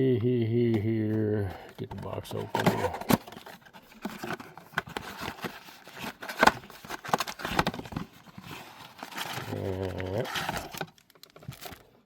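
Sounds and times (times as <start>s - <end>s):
cardboard box being opened: 1.5s - 11.8s
cardboard crackling and tearing: 1.8s - 11.9s.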